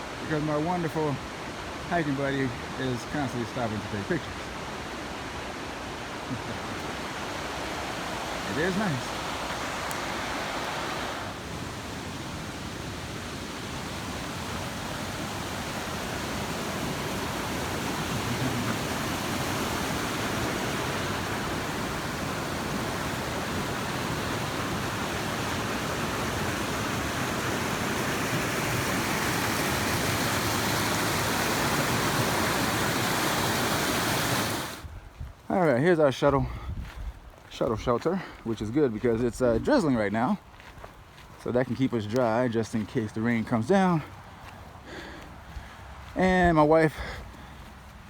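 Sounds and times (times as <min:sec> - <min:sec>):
creek water rushing: 0:00.0 - 0:35.0, 0:37.4 - 0:48.0.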